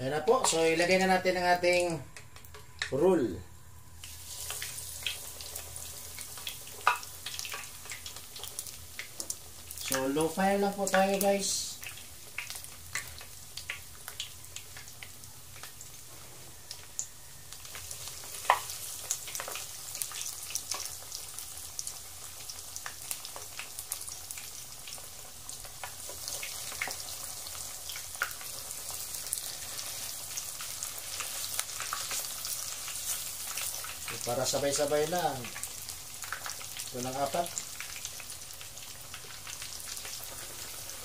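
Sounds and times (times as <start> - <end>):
food sizzling in hot oil: 4.0 - 41.0.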